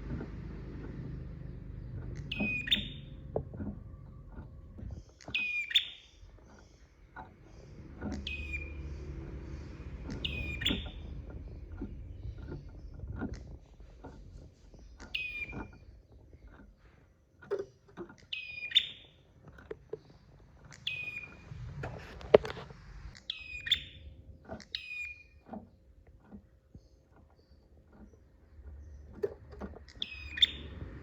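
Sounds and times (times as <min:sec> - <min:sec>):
bird chirping: 0:00.0 - 0:22.5, 0:23.1 - 0:31.0.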